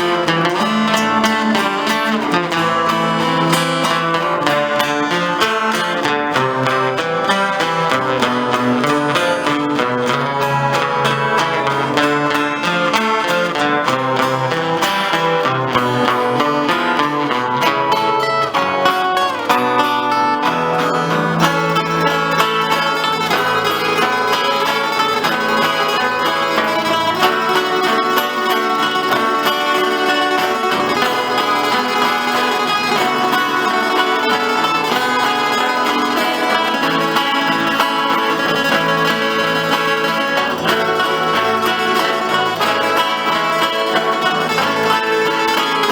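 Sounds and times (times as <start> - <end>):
folk music on plucked strings: 0.0 - 45.9.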